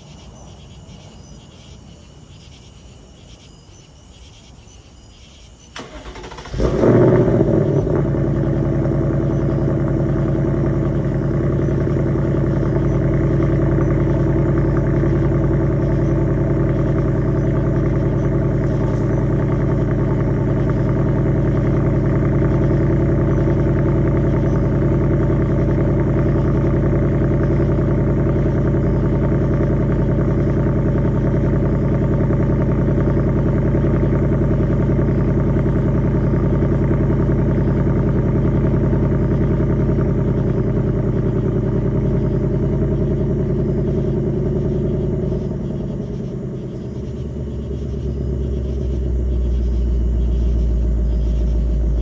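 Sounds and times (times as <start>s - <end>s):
car engine idling: 5.8s - 52.0s.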